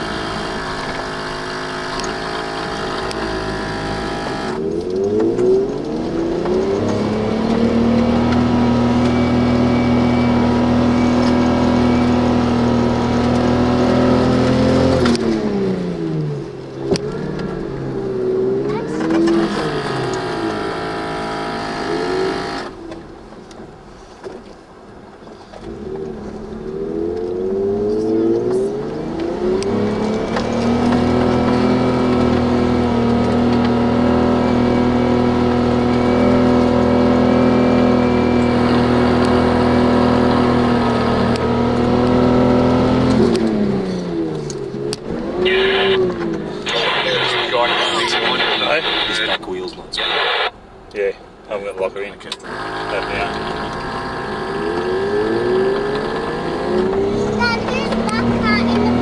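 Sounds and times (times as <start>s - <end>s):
engine revving in snow: 0.0s - 22.8s, 25.7s - 50.5s, 52.4s - 59.0s.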